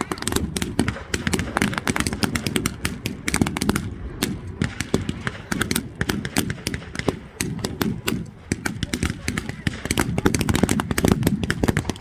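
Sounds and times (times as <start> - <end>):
low rumble: 0.0 - 11.9
guns firing blanks: 0.0 - 12.0.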